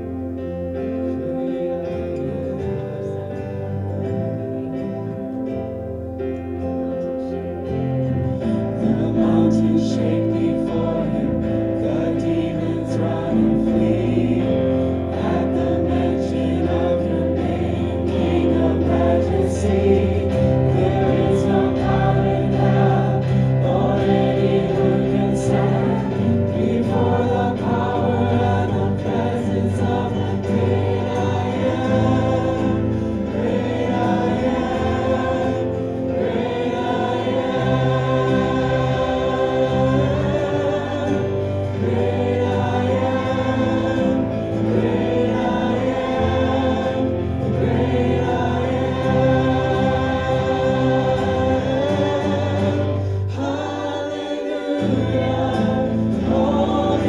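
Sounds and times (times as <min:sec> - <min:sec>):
group singing worship song: 0:00.0 - 0:57.0
keyboard synth pad: 0:00.0 - 0:57.0.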